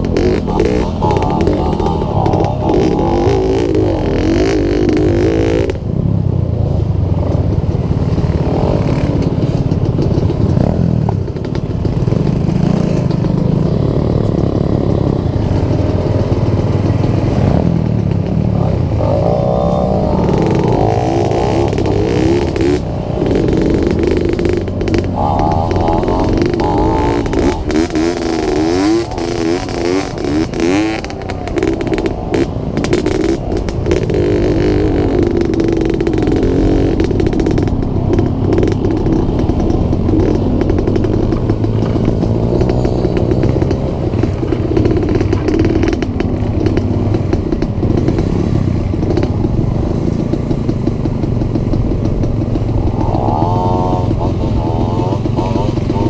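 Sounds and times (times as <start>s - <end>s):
motorcycle clattering over bumps: 0.0s - 56.0s
motorcycle engine revving: 0.0s - 56.0s.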